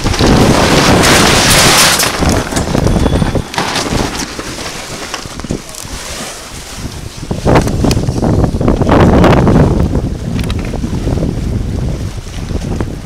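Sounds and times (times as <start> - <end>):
sail flapping with sharp cracks: 0.0 - 13.0
wind buffeting microphone: 0.0 - 13.0.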